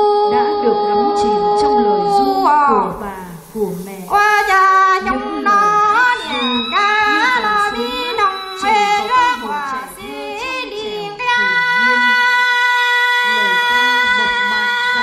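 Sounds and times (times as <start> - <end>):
woman singing ornamented melody: 0.0 - 15.0.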